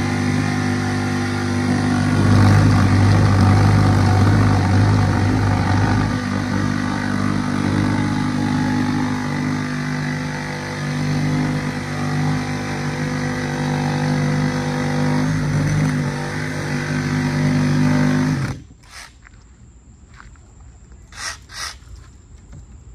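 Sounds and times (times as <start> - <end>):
cordless drill boring into wood: 0.0 - 19.2.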